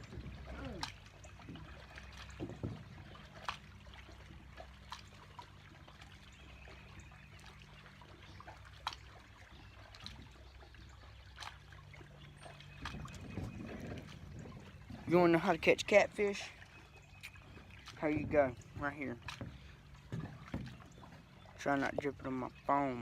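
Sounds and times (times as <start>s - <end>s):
water trickling and lapping: 0.0s - 23.0s.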